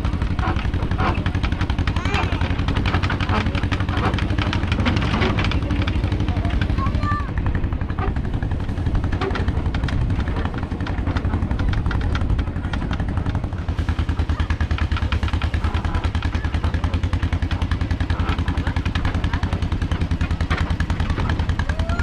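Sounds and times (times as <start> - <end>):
tractor engine chugging: 0.0 - 22.0.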